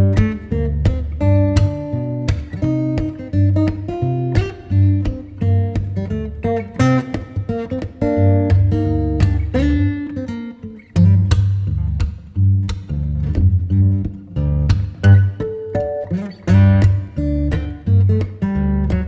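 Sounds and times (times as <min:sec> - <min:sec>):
plucked string music with bass: 0:00.0 - 0:19.0.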